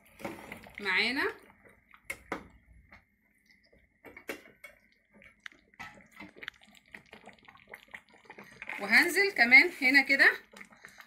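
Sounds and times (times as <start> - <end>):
wet stirring sounds: 0.0 - 11.0.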